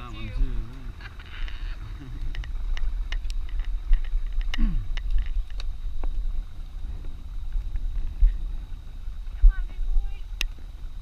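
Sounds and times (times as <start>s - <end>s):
constant low rumble: 0.0s - 11.0s.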